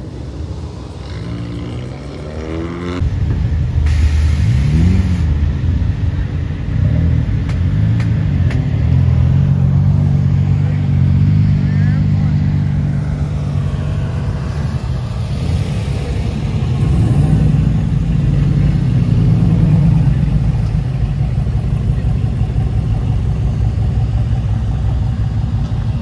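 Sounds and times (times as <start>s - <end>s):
car engine running: 4.8s - 26.0s.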